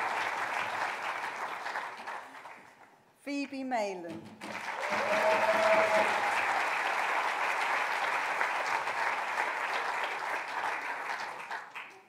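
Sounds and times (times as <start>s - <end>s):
audience clapping: 0.0s - 3.0s, 4.4s - 12.0s.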